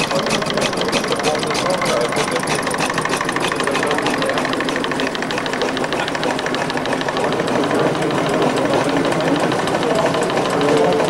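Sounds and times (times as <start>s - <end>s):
model engine ticking and clattering: 0.0s - 11.0s.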